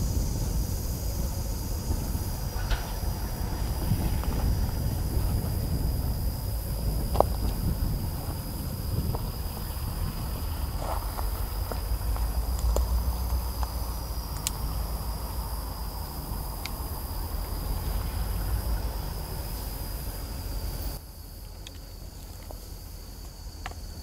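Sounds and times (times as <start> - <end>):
low rumble: 0.0 - 21.0
insects droning: 0.0 - 24.0.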